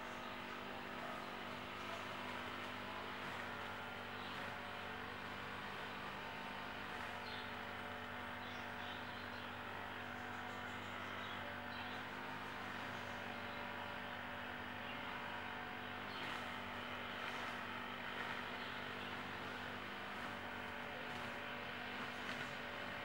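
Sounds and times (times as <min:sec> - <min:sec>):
low tonal hum: 0:00.0 - 0:23.0.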